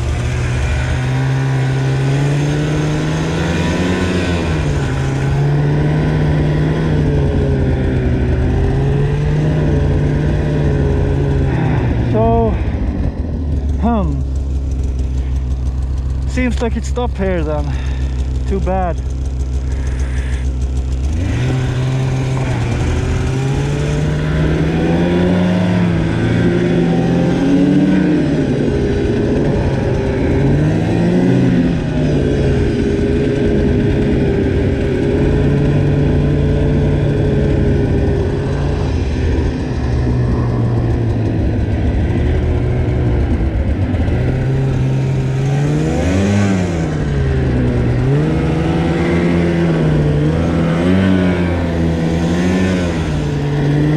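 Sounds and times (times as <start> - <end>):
snowmobile engine revving: 0.0 - 53.9.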